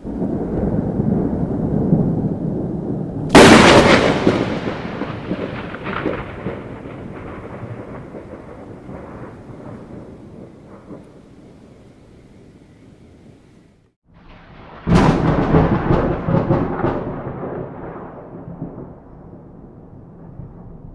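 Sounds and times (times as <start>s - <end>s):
loud thunderclap: 0.0s - 11.6s, 14.2s - 20.9s
thunder rumbling: 0.0s - 13.6s, 14.2s - 20.9s.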